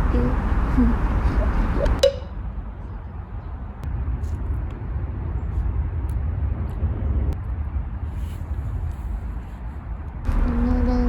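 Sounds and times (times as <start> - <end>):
congested road traffic rumble: 0.0 - 11.0.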